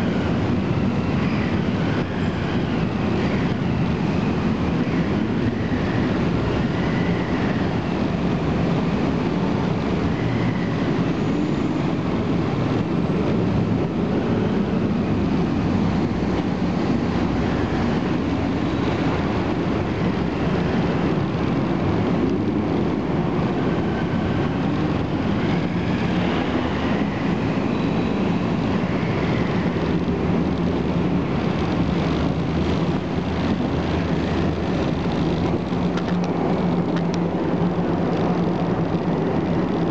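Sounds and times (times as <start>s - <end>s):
vehicle engines rumbling: 0.0s - 39.9s.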